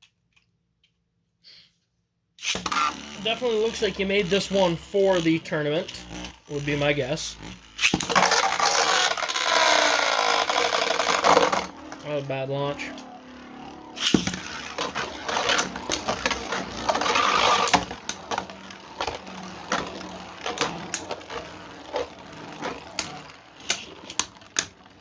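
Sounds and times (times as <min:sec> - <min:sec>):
ripcord rip: 0:02.4 - 0:25.0
spinning tops grinding and scraping: 0:02.4 - 0:25.0
tops clicking and knocking: 0:02.4 - 0:25.0.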